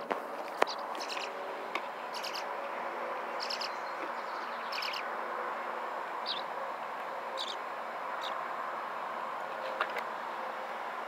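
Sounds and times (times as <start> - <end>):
nestling birds chirping: 0.1 - 10.9.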